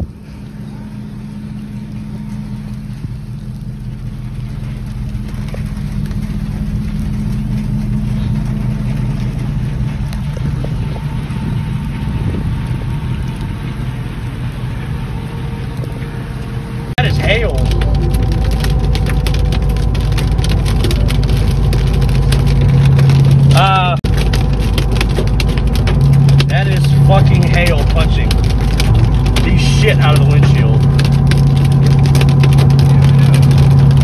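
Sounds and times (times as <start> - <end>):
pickup truck engine idling: 0.0 - 34.0.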